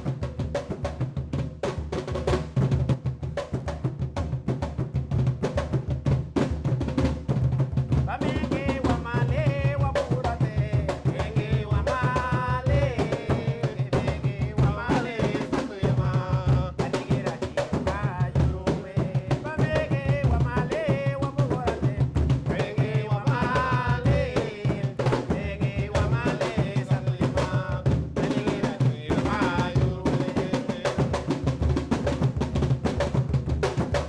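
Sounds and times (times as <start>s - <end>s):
deep hand drum: 0.0s - 34.0s
lead hand drum: 0.0s - 34.0s.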